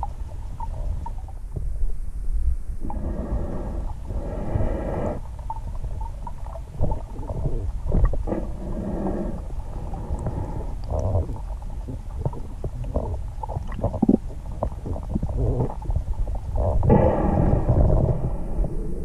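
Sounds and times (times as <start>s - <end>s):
underwater rumble: 0.0s - 19.0s.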